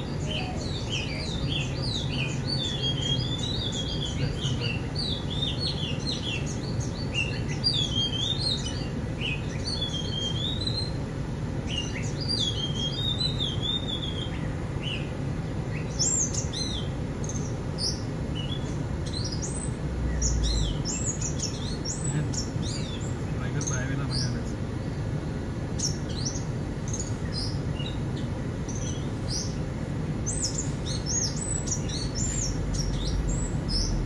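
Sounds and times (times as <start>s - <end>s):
birds chirping and whistling: 0.0s - 34.0s
low steady hum: 0.0s - 34.0s.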